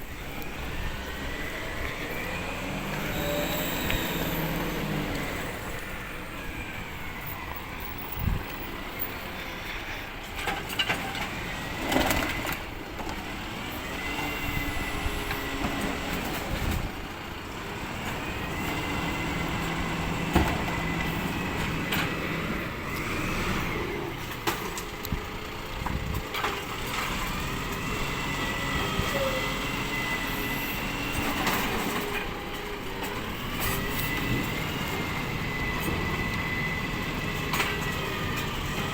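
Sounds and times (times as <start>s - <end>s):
truck running with high whine: 0.0s - 38.9s.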